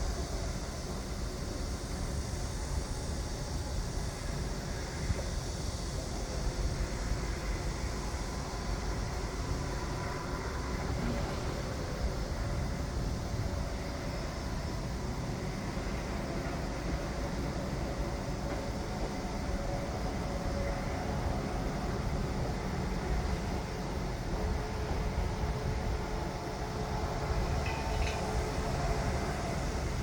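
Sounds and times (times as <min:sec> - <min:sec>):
construction machinery rumble: 0:00.0 - 0:30.0.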